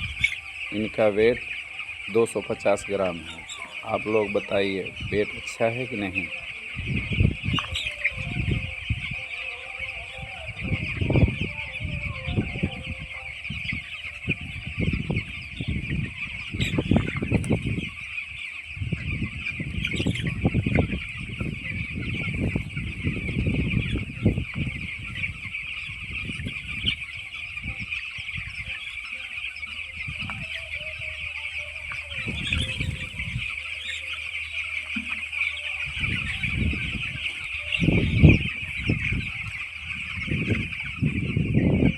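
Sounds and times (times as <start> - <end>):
chicks peeping: 0.0 - 41.9.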